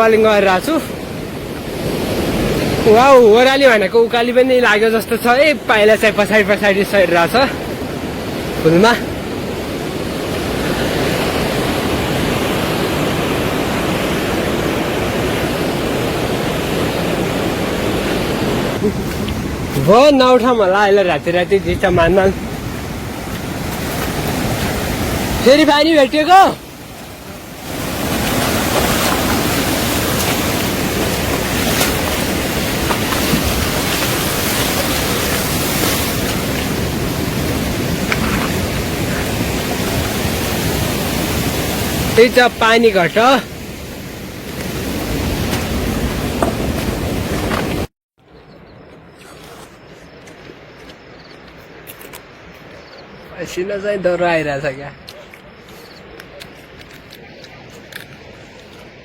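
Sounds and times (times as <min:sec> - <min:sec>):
rushing river water: 0:00.0 - 0:47.9.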